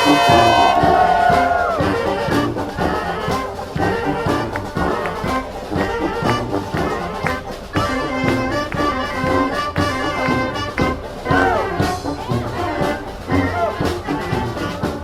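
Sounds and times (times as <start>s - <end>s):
brass horns playing: 0.0s - 15.0s
steady drum beat: 0.0s - 15.0s.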